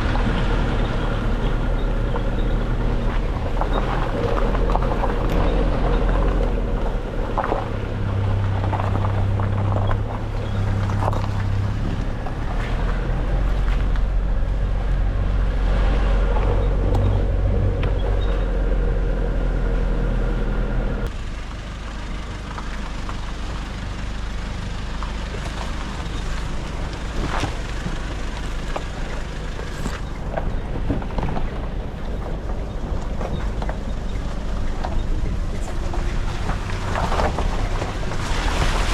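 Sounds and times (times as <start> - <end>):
vehicle engine driving off-road: 0.0 - 38.9.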